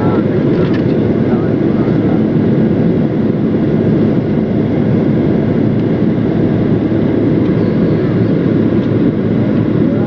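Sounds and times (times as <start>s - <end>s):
jet airliner engine roar: 0.0s - 10.0s.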